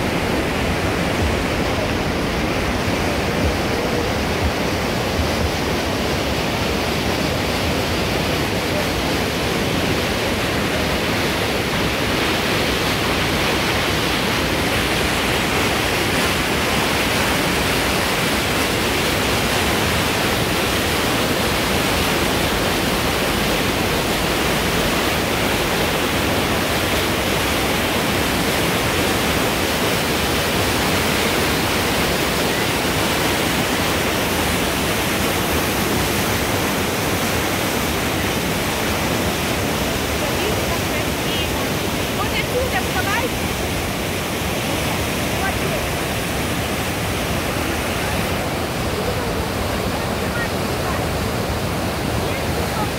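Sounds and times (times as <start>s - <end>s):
river rushing over rocks: 0.0s - 52.9s.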